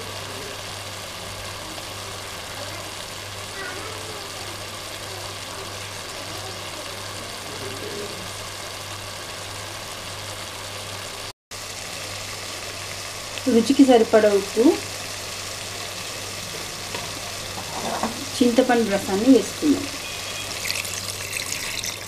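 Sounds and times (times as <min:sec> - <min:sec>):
food hissing in a pan: 0:00.0 - 0:22.0.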